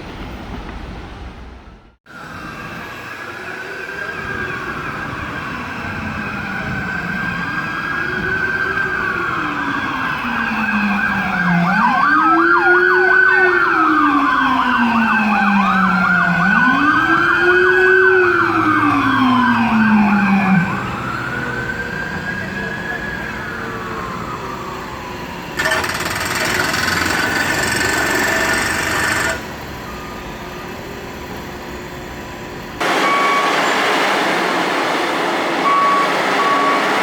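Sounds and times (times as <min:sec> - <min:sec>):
deeper slow siren wail: 0:02.1 - 0:25.6, 0:29.5 - 0:37.0
fast siren yelp: 0:02.1 - 0:30.8, 0:32.8 - 0:37.0
siren wailing: 0:02.1 - 0:30.9, 0:32.8 - 0:37.0.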